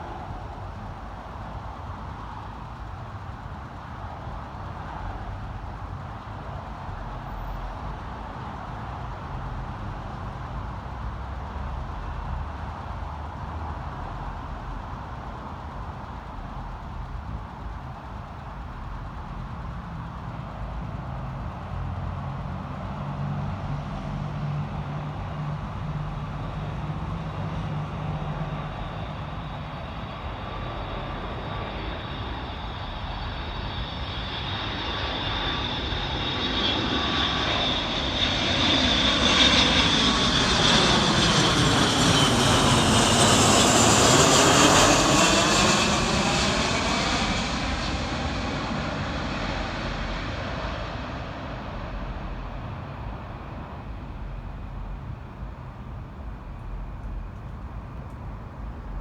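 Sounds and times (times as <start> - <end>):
jet engines passing overhead: 0.0 - 59.0.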